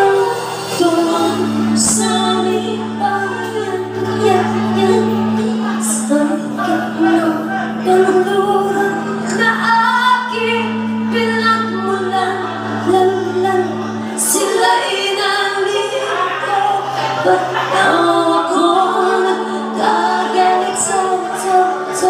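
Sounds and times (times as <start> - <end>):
bass: 0.0 - 22.0
electric guitar: 0.0 - 22.0
female singers: 0.0 - 22.0
keyboard: 0.0 - 22.0.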